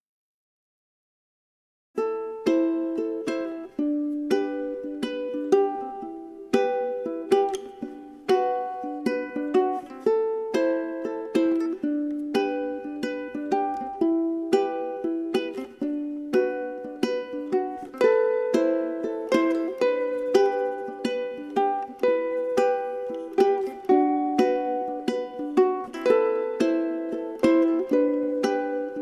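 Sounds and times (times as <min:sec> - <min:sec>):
plucked string instrument music: 0:02.0 - 0:29.0.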